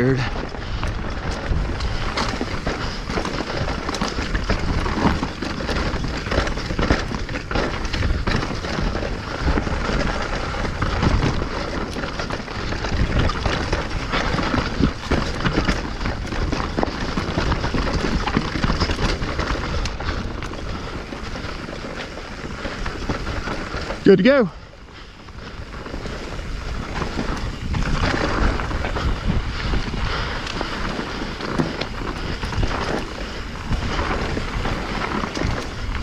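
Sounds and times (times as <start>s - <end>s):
bike rattling over roots: 0.0s - 36.0s
bike tyre noise on dirt: 0.0s - 36.0s
wind on microphone: 0.0s - 36.0s.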